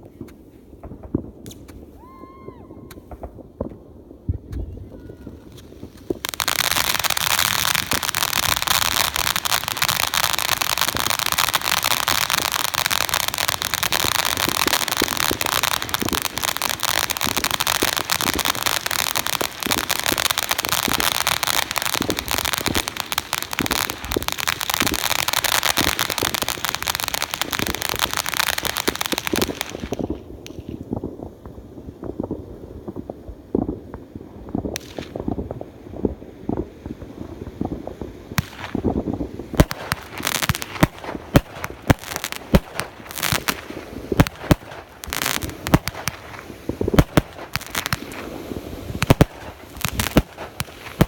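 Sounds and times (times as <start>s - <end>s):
firework crackling and hissing: 0.0s - 51.0s.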